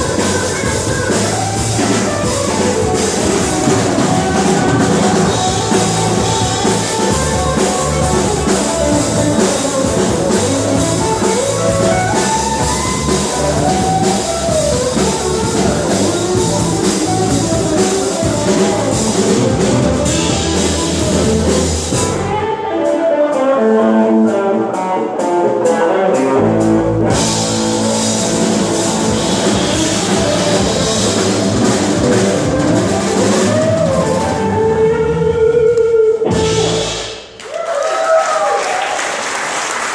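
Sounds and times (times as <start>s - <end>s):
drum kit: 0.0s - 37.4s
electric guitar: 0.0s - 37.4s
bass: 0.0s - 39.9s.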